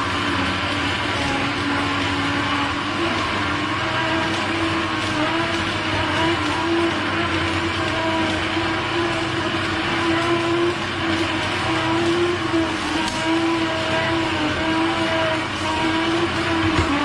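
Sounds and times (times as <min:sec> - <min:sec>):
electric juicer motor humming: 0:00.0 - 0:17.0.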